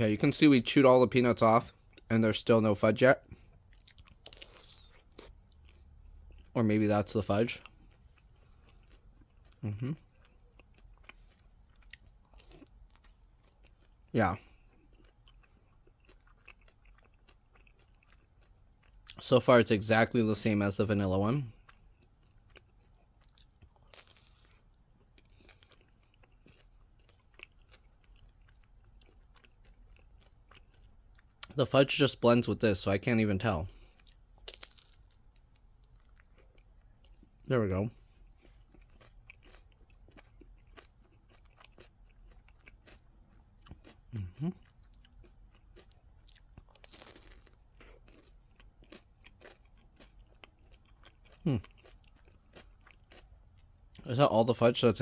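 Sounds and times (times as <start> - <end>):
chewing ice cream cone: 3.2 - 19.4, 20.9 - 31.8, 33.6 - 54.5.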